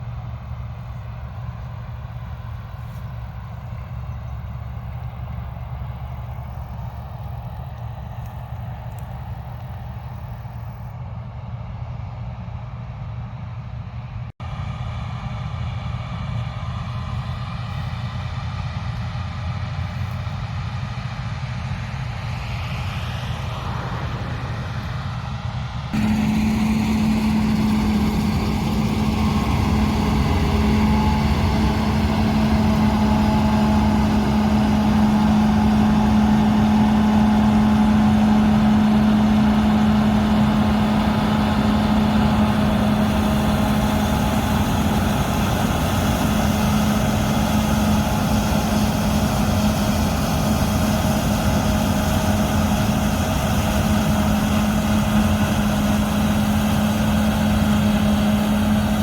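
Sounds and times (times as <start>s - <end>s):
diesel machinery humming: 0.0s - 59.0s.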